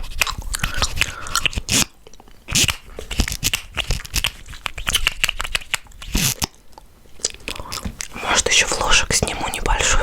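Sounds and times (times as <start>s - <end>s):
gum chewing smacks and snaps: 0.0s - 10.0s.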